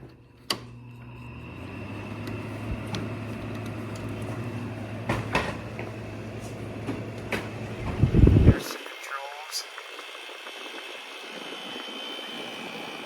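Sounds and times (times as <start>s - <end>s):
air conditioner fan rushing: 0.0s - 8.8s, 9.8s - 13.0s
air conditioner compressor hum: 0.0s - 13.0s.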